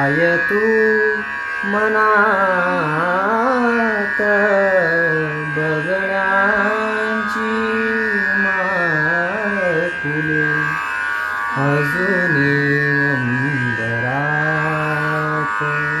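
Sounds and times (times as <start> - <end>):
steady drone accompaniment: 0.0 - 16.0.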